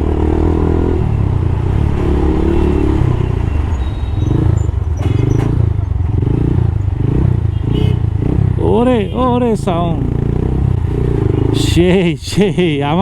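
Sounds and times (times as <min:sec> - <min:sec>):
motorcycle engine and exhaust: 0:00.0 - 0:12.2.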